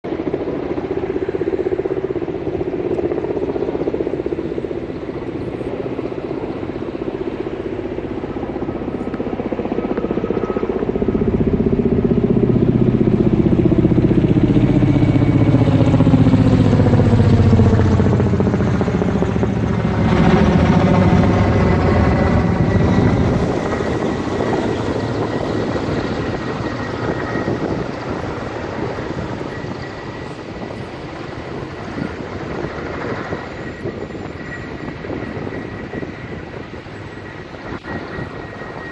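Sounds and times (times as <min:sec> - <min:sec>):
helicopter flying past: 0:00.0 - 0:38.9.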